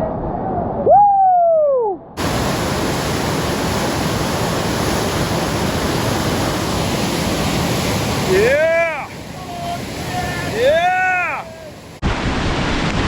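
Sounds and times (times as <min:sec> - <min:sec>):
river whitewater rushing: 0:02.2 - 0:13.0.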